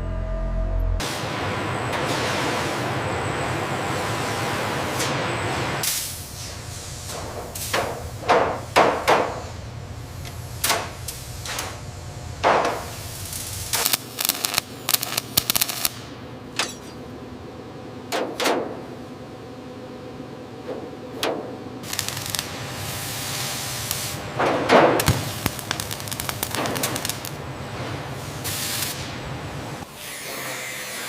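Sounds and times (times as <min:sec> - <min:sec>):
low machinery hum: 0:00.0 - 0:30.0.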